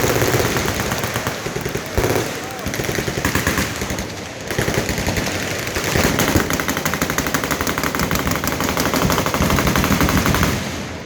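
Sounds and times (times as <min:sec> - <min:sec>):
machine guns firing: 0:00.0 - 0:11.0.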